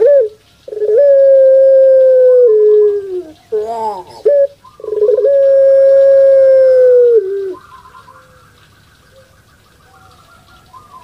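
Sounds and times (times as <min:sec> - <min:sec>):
dove calling: 0:00.0 - 0:11.0.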